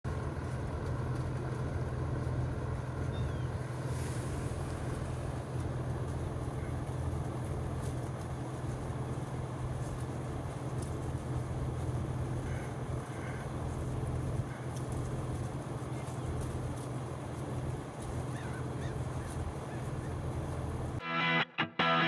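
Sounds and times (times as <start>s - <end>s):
heat pump compressor and fan hum: 0.1s - 21.0s.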